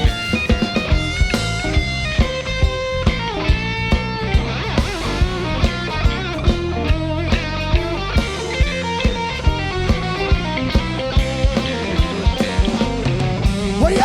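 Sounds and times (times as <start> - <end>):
bass: 0.0 - 14.0
drum kit beat: 0.0 - 14.0
electric guitar lead: 0.0 - 14.0.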